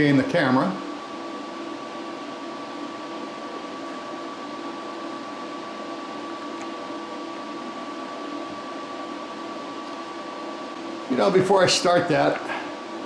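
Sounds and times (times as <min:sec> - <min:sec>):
milling machine hum and whine: 0:00.0 - 0:13.0.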